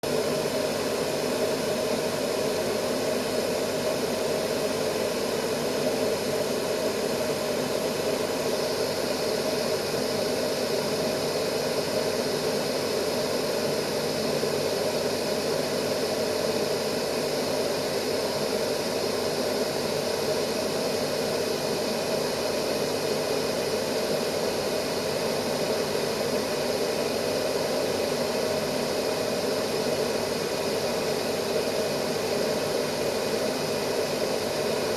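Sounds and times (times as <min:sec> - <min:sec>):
white noise hiss: 0:00.0 - 0:34.9.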